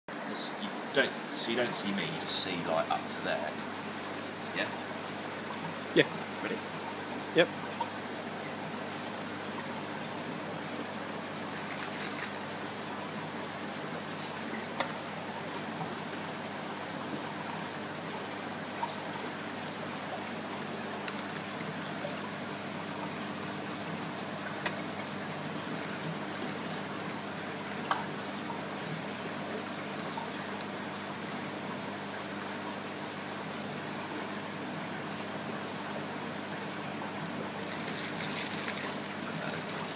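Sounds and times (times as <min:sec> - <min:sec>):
aquarium filter water trickling: 0:00.1 - 0:39.9.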